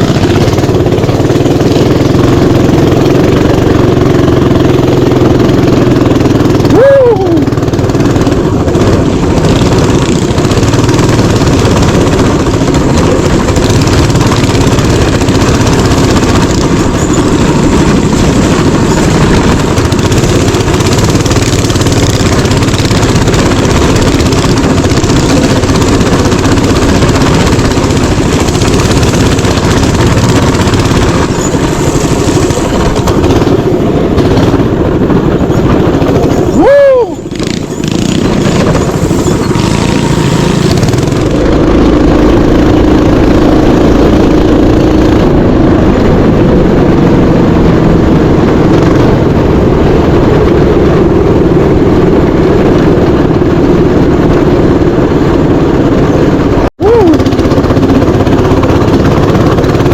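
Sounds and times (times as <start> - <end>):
mini bike engine running: 0.0 - 59.9
rushing noise: 6.0 - 59.9.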